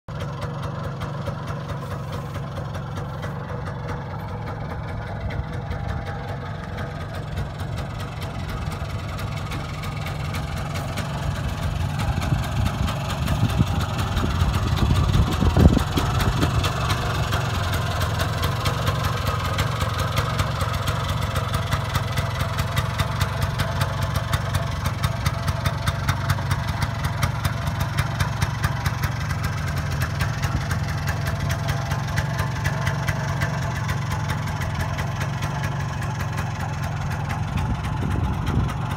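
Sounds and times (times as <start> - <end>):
two-stroke engine idling: 0.1 - 38.9.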